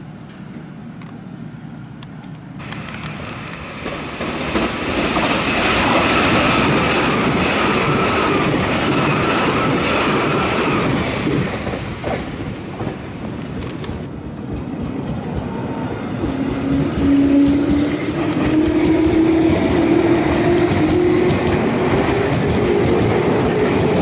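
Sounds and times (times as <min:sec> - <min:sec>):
express train passing at speed: 0:00.0 - 0:24.0.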